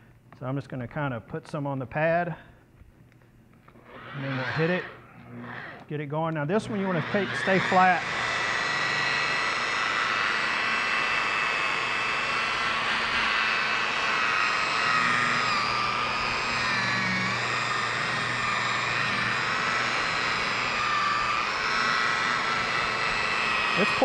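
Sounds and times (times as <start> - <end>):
machine polisher whining: 3.6 - 24.0.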